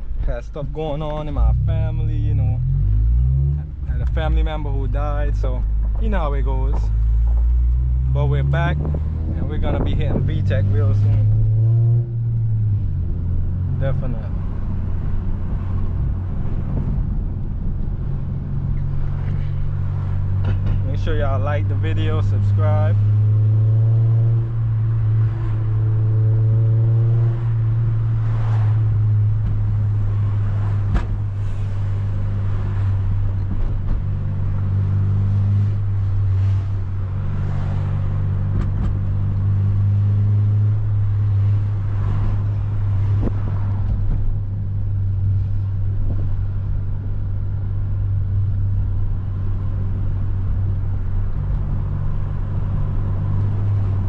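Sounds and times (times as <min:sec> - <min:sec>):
car engine cruising: 0:00.0 - 0:54.0.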